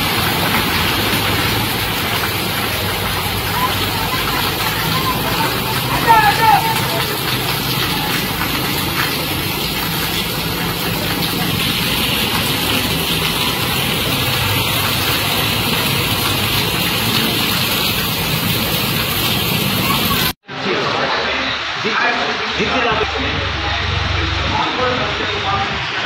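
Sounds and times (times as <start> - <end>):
heavy rain: 0.0 - 26.0
vehicle engines rumbling: 0.0 - 26.0.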